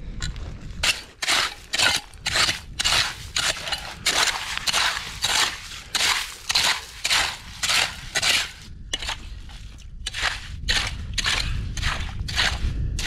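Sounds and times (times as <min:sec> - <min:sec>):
hand rake scraping through gravel: 0:00.8 - 0:12.7.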